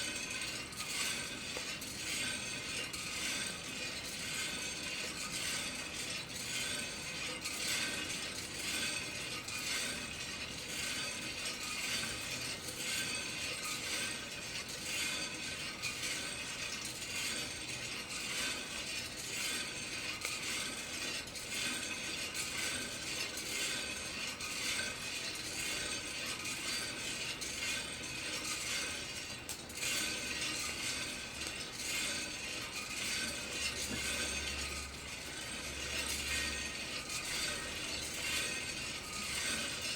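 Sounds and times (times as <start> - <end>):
coffee beans rattling in roaster drum: 0.0 - 39.9.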